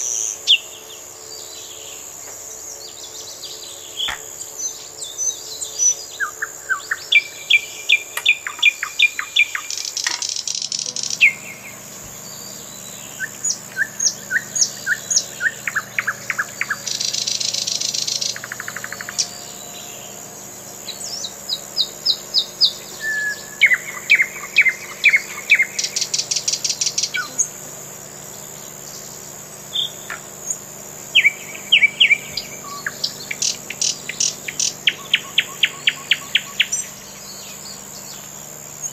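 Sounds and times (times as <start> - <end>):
buzzy bird trills: 0.0 - 38.9
songbirds chirping: 0.0 - 38.9
steady high whine: 0.0 - 38.9.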